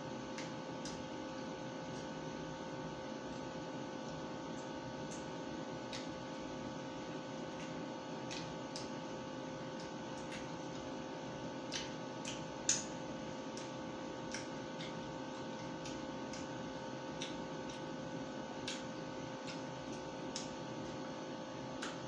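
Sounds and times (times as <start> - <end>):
room hum: 0.0 - 22.0
chewing and tearing chicken: 0.1 - 22.0.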